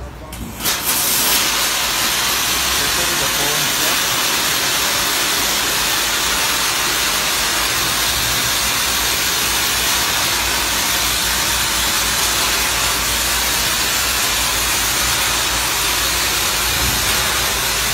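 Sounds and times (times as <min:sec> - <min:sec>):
water jets spraying: 0:00.3 - 0:17.9.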